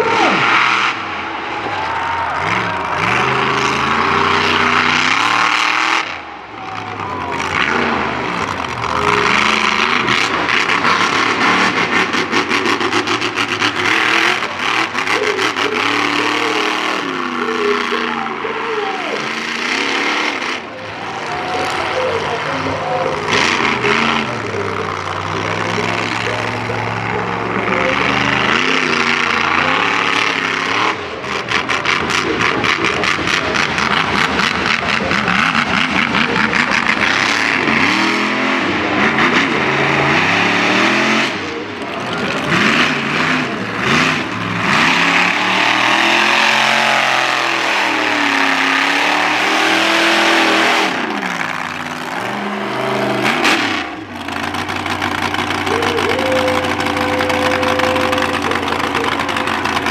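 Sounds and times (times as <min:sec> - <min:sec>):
monster truck engine revving: 0:00.0 - 0:59.9.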